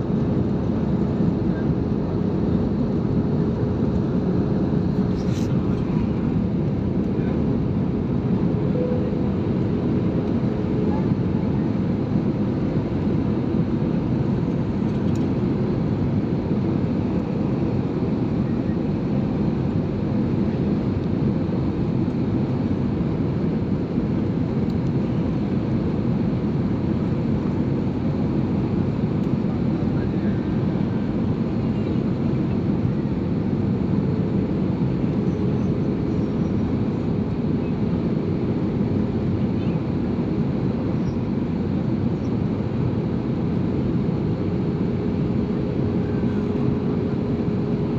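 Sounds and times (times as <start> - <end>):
jet cabin engine rush: 0.0 - 47.9.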